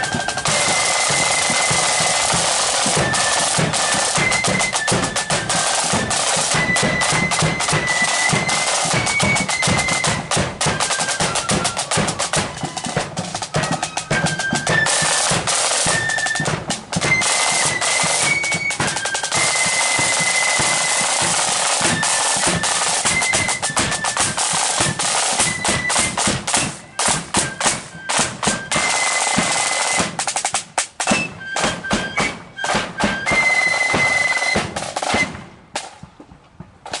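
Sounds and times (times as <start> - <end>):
flutes playing tune: 0.0 - 35.5
snare drumming: 0.0 - 37.0.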